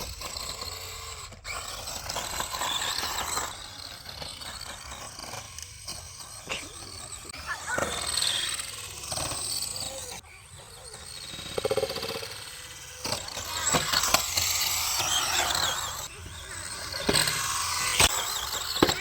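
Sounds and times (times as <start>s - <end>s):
rc car motor whine: 0.0s - 19.0s.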